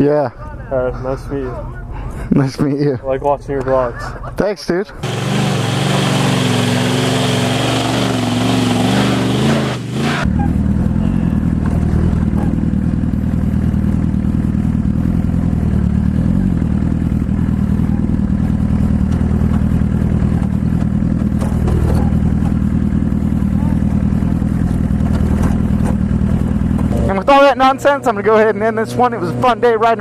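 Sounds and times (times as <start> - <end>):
motorcycle engine running: 5.0 - 30.0.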